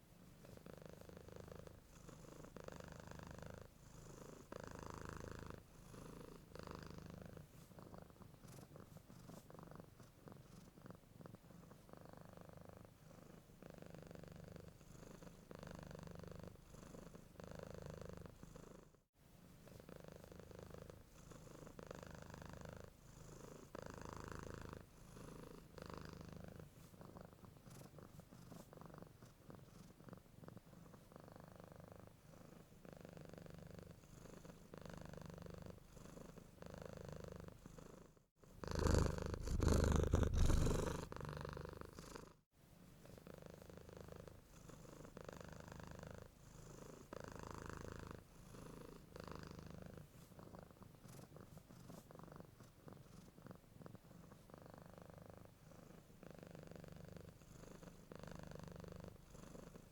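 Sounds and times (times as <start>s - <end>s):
cat purring: 0.0s - 19.0s, 19.6s - 59.9s.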